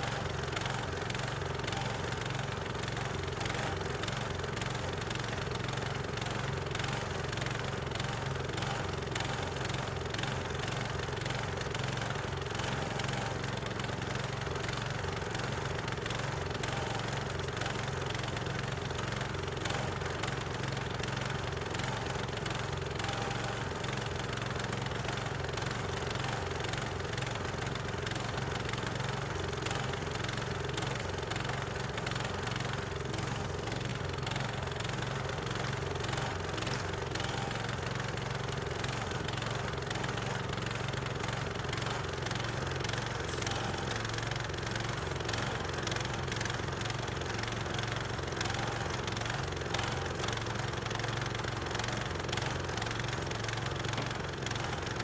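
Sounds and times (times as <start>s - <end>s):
sawmill gasoline engine running: 0.0s - 55.0s.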